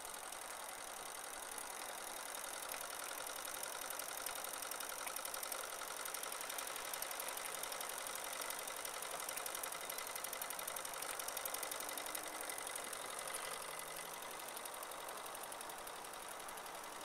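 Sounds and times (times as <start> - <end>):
model steam engine chuffing: 0.0 - 17.0.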